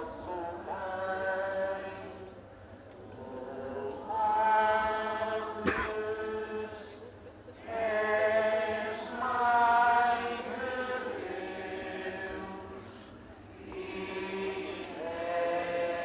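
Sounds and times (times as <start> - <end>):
group singing a hymn: 0.0 - 2.4, 3.2 - 16.0.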